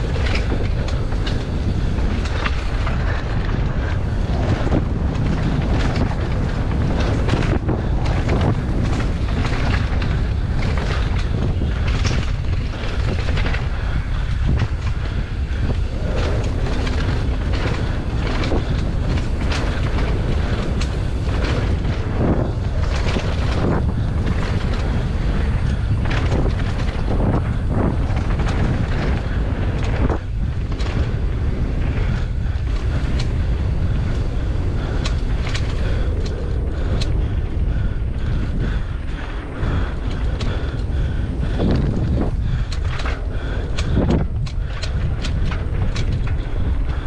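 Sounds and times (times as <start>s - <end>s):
bike rattling over bumps: 0.0s - 47.0s
tyres running over dirt: 0.0s - 47.0s
wind on microphone: 0.0s - 47.0s.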